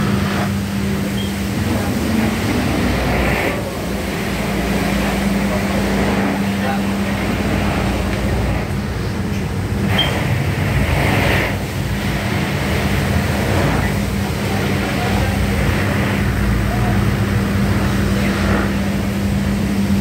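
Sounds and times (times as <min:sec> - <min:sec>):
constant low hum: 0:00.0 - 0:20.0
rotating brushes scrubbing: 0:00.0 - 0:20.0
water spraying: 0:00.0 - 0:20.0.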